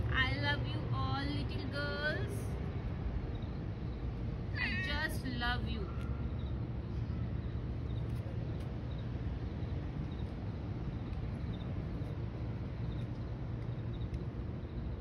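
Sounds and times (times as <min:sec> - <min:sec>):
low ambient rumble: 0:00.0 - 0:15.0.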